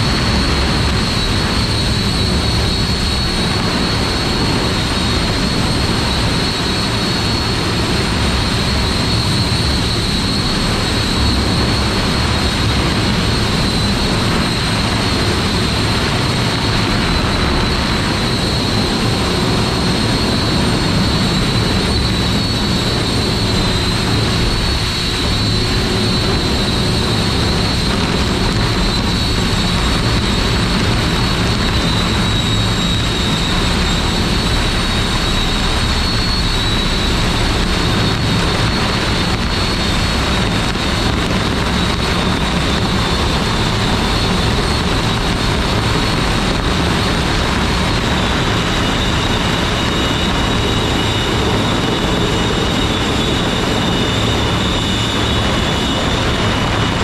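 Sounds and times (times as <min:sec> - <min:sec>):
electric fans whining: 0:00.0 - 0:57.0.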